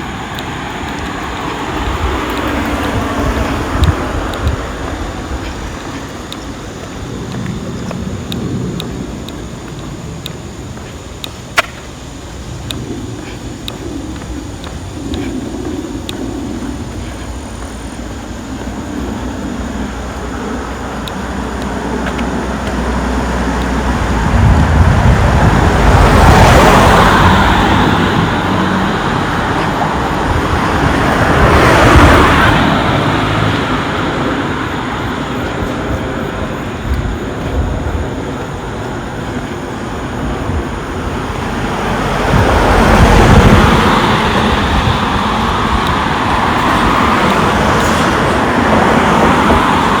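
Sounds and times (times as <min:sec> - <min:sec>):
cars passing close by: 0:00.0 - 0:50.0
steady traffic hum: 0:00.0 - 0:50.0.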